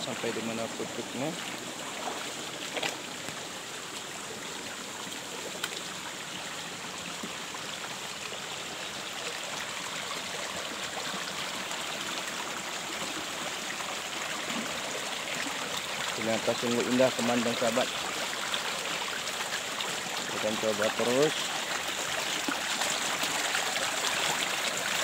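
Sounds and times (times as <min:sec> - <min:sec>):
stream running over rocks: 0:00.0 - 0:25.0.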